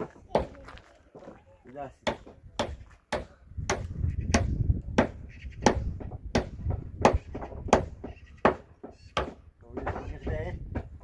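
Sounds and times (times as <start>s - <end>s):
hand tool striking wood: 2.0s - 11.0s.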